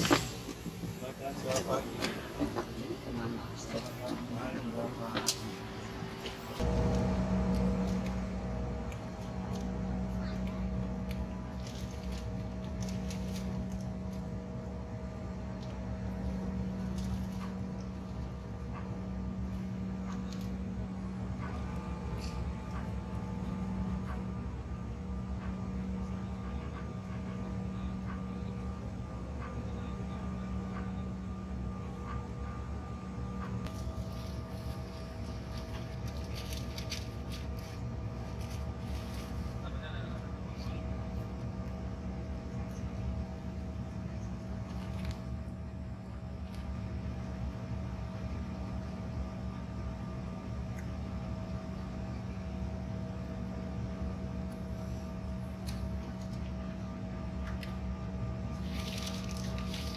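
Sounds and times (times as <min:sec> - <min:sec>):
airliner cabin drone: 0:00.0 - 0:59.9
jet engines humming: 0:00.0 - 0:59.9
low uneven rumble: 0:00.0 - 0:59.9.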